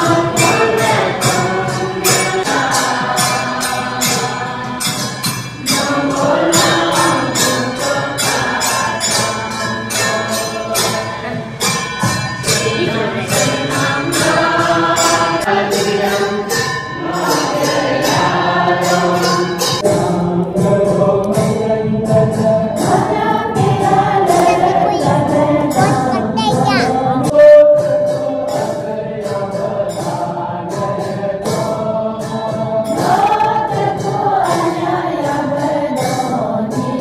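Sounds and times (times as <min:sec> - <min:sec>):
congregation singing a hymn: 0:00.0 - 0:11.7, 0:12.5 - 0:26.1, 0:28.2 - 0:37.0.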